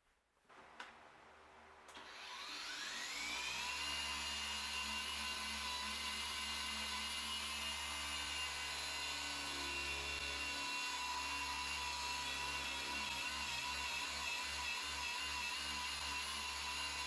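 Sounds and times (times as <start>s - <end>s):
polishing machine whining: 2.0s - 17.0s.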